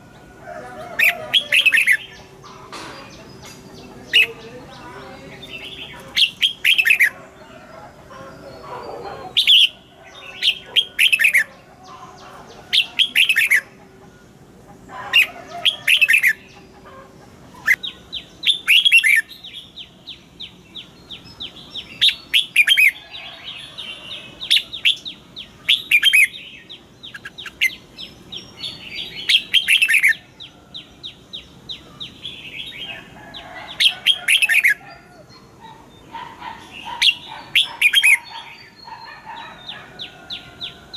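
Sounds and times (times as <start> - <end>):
bulbuls singing whistled phrases: 0.0 - 40.9.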